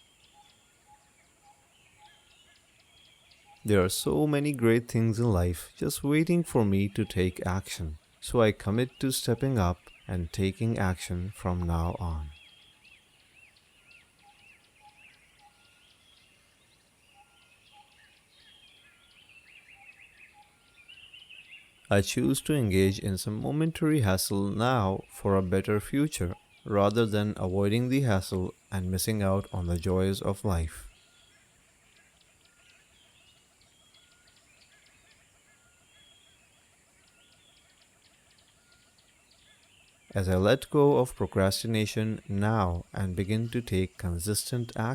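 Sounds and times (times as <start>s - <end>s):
steady high hiss: 0.0s - 14.6s, 20.7s - 44.9s
small birds chirping: 0.0s - 44.9s.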